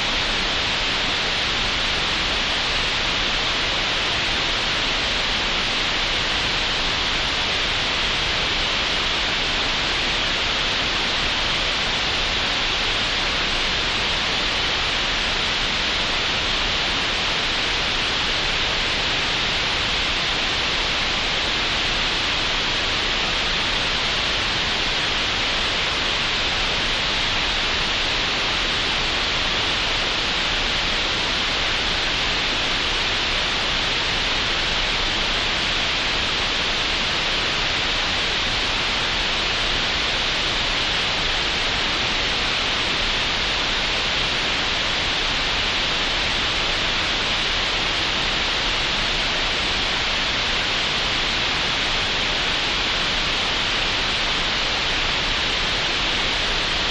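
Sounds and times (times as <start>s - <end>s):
synthetic green noise hiss: 0.0s - 56.9s.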